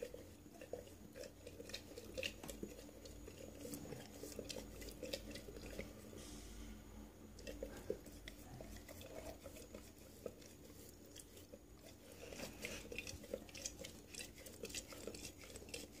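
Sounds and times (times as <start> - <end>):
dog lapping from a mug: 0.0 - 6.3, 7.4 - 16.0.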